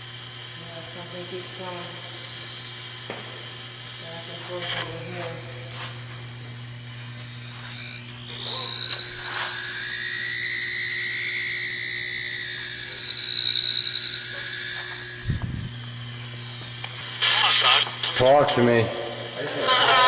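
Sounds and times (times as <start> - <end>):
high electronic whine: 0.0 - 20.0
steady low hum: 0.0 - 20.0.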